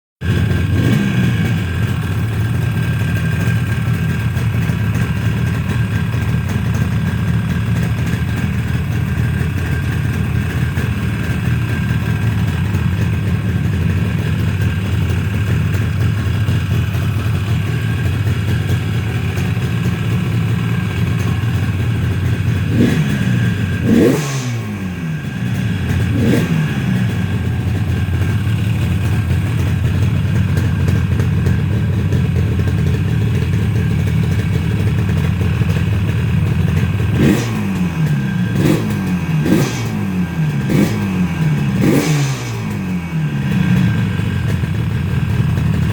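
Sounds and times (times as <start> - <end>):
two-stroke motorcycle engine idling: 0.2 - 45.9.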